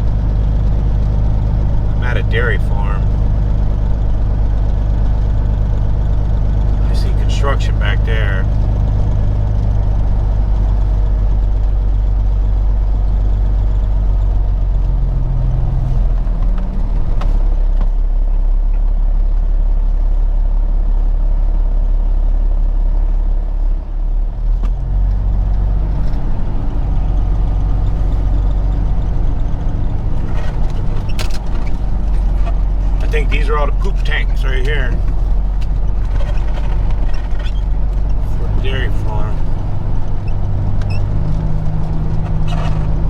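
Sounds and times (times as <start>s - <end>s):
diesel truck engine running: 0.0s - 43.0s.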